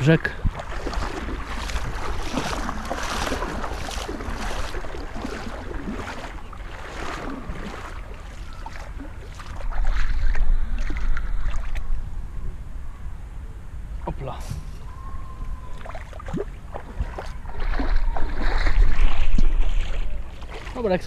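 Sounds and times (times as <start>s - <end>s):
splashing through shallow water: 0.0s - 12.0s, 15.0s - 21.0s.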